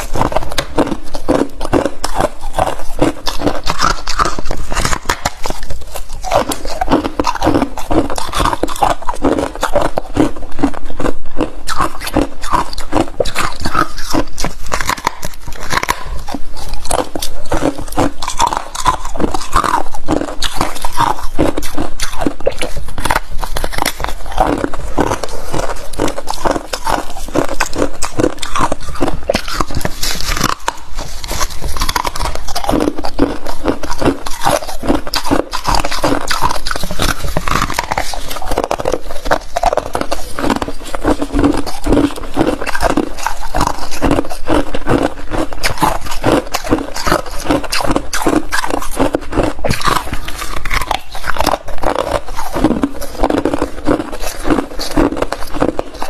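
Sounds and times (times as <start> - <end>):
chewing crunchy frost: 0.0 - 56.0.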